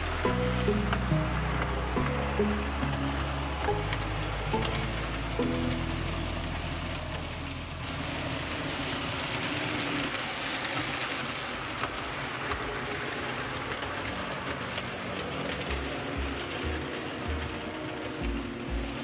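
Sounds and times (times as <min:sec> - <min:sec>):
model train rattling on track: 0:00.0 - 0:19.0.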